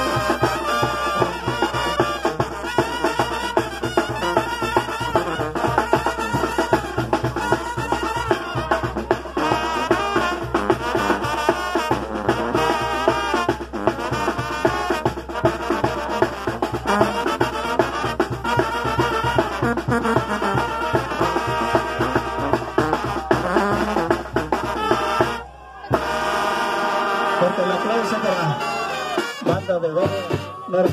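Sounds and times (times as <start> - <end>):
drum beat: 0.0 - 27.4, 28.0 - 30.9
brass band playing dance music: 0.0 - 30.9.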